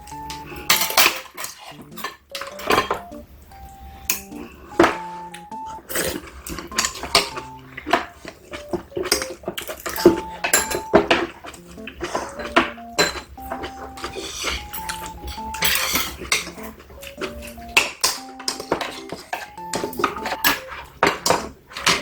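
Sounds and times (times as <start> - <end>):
light background music: 0.0 - 22.0
utensils clinking against dishes: 0.0 - 22.0.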